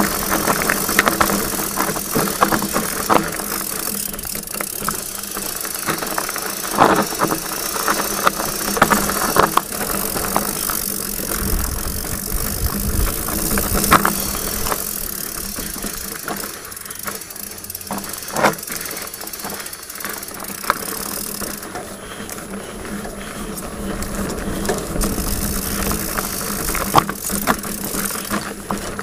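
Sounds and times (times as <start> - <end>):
bike rattling and clicking: 0.0 - 29.0.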